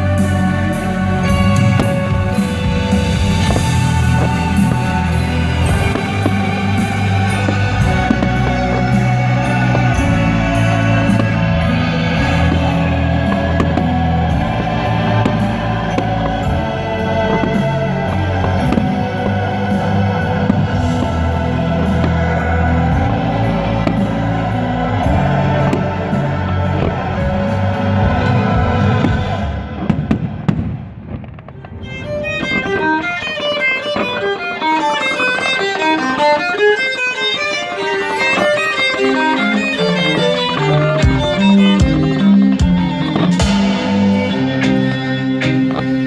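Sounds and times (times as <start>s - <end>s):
plucked and bowed strings music: 0.0s - 30.2s, 31.6s - 46.0s
loud music with heavy bass: 0.0s - 30.7s, 38.2s - 46.0s.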